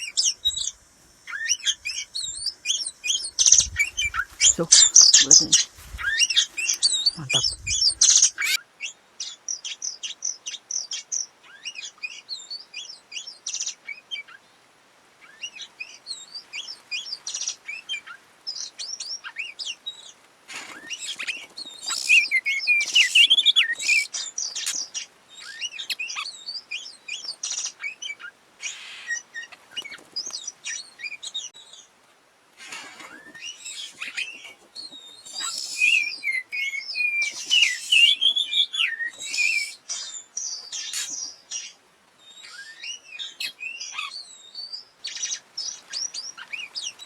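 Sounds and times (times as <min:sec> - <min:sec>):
songbird singing and chirping: 0:00.0 - 0:14.6, 0:15.2 - 0:32.0, 0:32.7 - 0:47.0.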